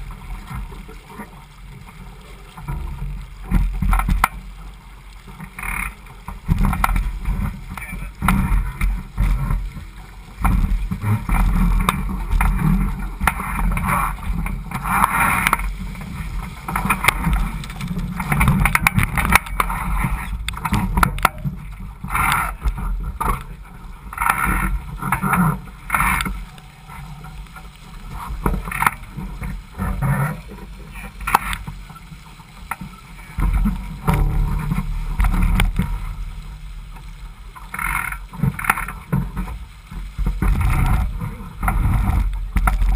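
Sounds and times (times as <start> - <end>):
low rumble: 0.0 - 42.9
water rushing along boat hull: 0.0 - 42.9.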